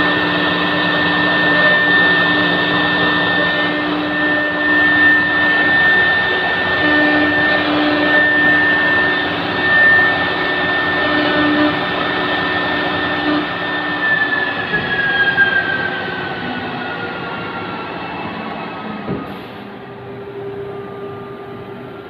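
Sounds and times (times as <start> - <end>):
router spindle high whine: 0.0 - 22.0.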